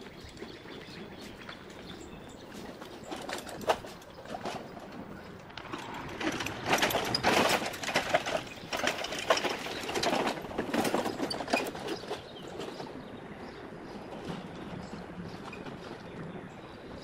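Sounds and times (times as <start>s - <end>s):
metal wagon rattling and clanking: 0.0s - 16.6s.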